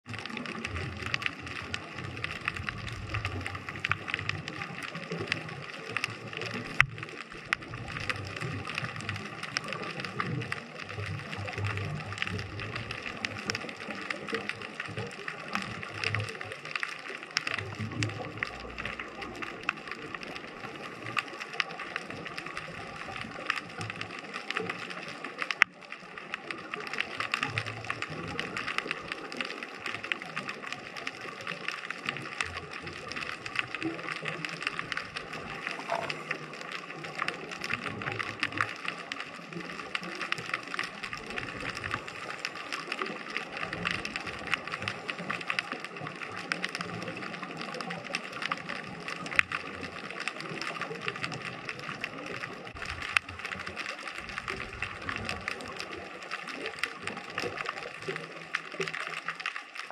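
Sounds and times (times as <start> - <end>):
low bubbling rumbles: 0.0 - 58.9
underwater crackle of fine clicks: 0.0 - 59.9.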